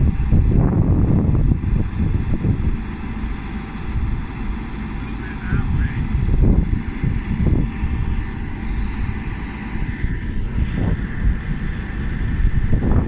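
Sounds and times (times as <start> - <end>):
backhoe engine rumbling: 0.0 - 13.0
wind buffeting microphone: 0.0 - 13.0.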